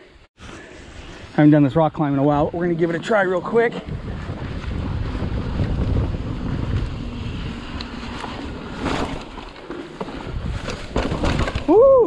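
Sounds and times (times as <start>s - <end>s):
bike rolling on dirt trail: 0.4s - 12.0s
wind buffeting microphone: 0.8s - 9.4s, 10.2s - 12.0s.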